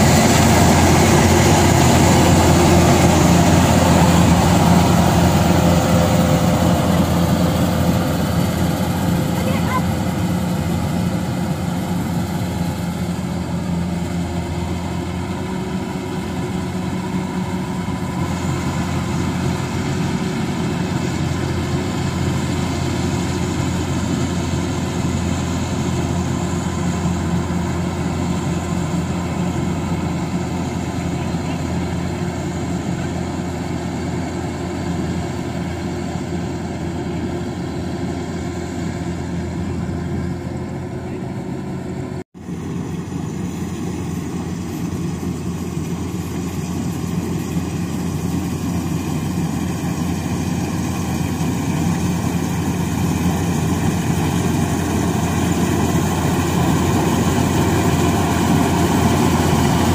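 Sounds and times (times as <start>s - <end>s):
farm machine engine running: 0.0s - 59.9s.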